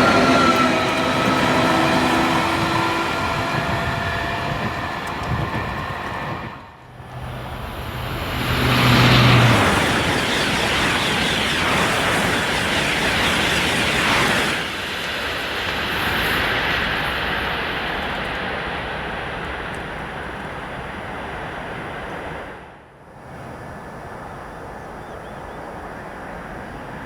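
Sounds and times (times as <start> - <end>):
train rushing through: 0.0 - 24.8
train traction equipment whine: 0.0 - 27.0.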